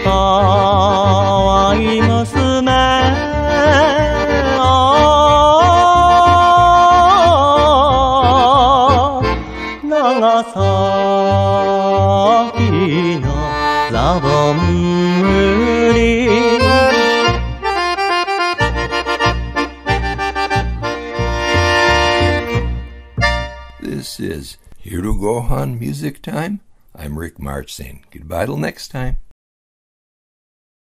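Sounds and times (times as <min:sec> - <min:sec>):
accordion music with bass beat: 0:00.0 - 0:24.9.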